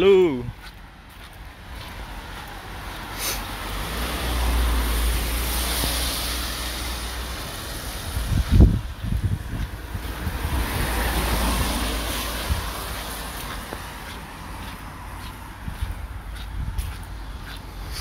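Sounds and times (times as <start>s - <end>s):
tyres hissing on wet road: 1.6s - 18.0s
wind rumbling on microphone: 3.6s - 18.0s.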